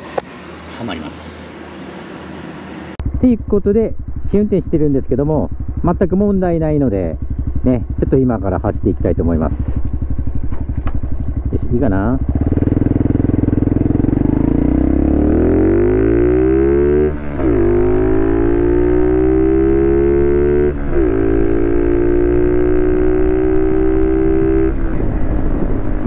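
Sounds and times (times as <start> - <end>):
motorcycle engine accelerating: 2.8 - 26.0.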